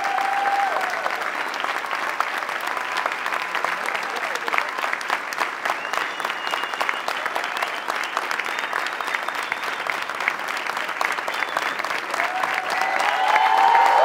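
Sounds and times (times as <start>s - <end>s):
crowd clapping: 0.0s - 14.0s.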